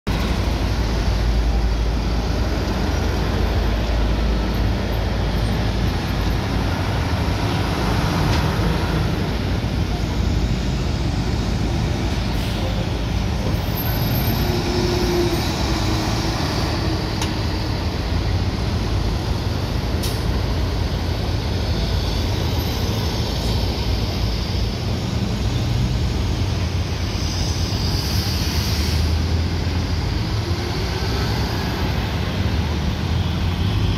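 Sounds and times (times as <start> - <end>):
highway traffic rumble: 0.0 - 33.9.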